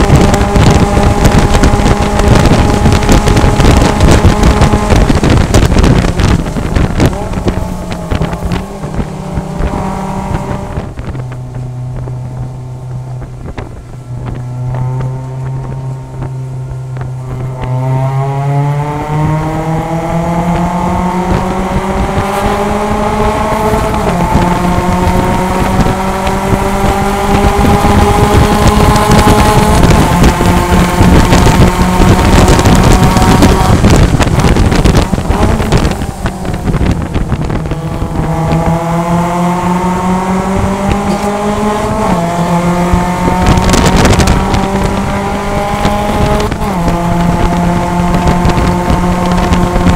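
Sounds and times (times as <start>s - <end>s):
race car engine revving: 0.0s - 49.9s
wind noise: 0.0s - 49.9s.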